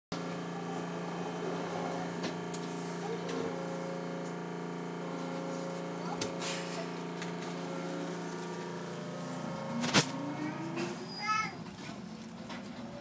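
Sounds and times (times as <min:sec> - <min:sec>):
electrical hum in train car: 0:00.2 - 0:13.0.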